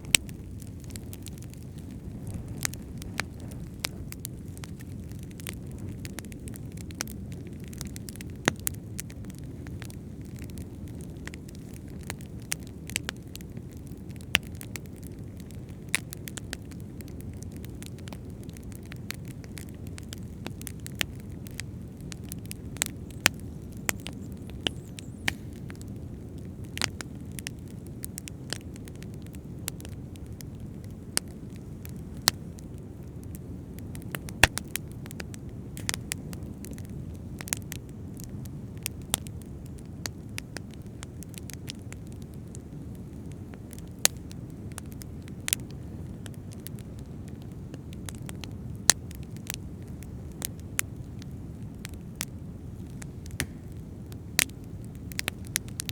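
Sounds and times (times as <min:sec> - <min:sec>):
fire crackling and popping: 0:00.0 - 0:55.9.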